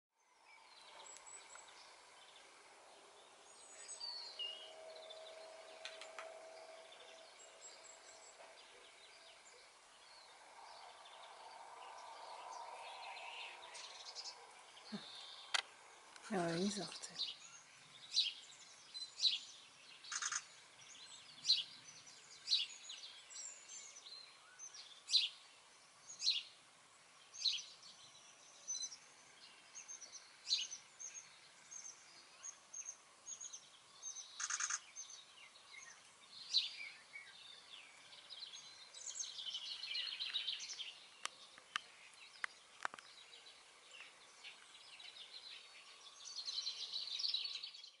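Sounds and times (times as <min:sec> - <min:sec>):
birds twittering: 0:00.3 - 0:48.0
songbirds sharp high calls: 0:00.5 - 0:26.6, 0:27.2 - 0:48.0.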